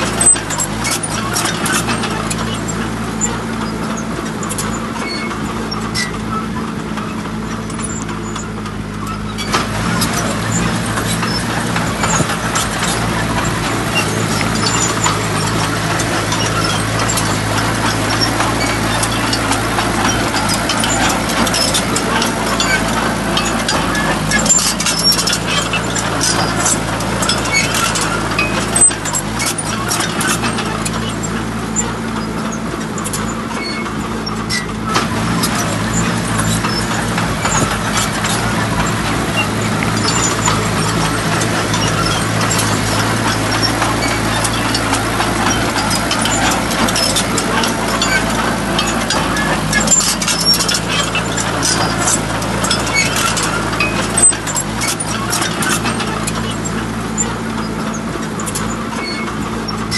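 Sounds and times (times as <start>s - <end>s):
diesel truck engine running: 0.0s - 59.9s
noisy rush with clicks: 0.0s - 59.9s.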